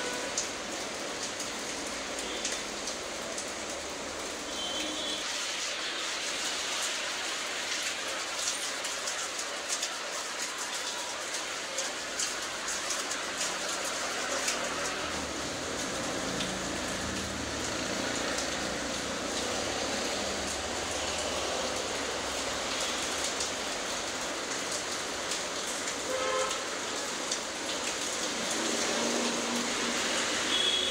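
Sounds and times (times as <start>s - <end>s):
rain on stone paving and puddles: 0.0s - 30.9s
close raindrop ticks: 0.1s - 30.8s.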